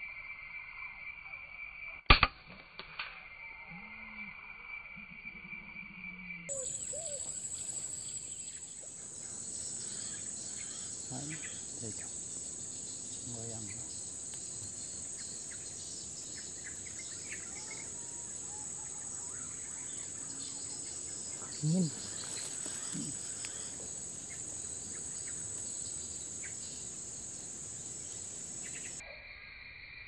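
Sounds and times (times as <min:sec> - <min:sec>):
insects buzzing: 0:03.2 - 0:30.0.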